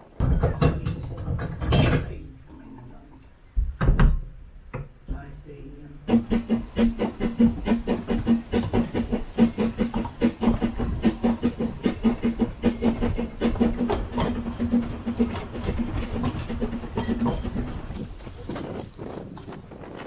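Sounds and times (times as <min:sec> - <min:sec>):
steam locomotive clattering: 0:00.0 - 0:02.8, 0:06.0 - 0:20.0.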